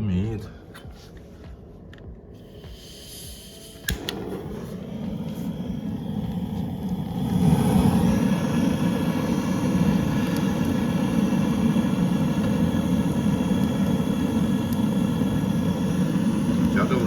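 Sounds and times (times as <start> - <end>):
low rushing of fire draft: 2.9 - 17.0.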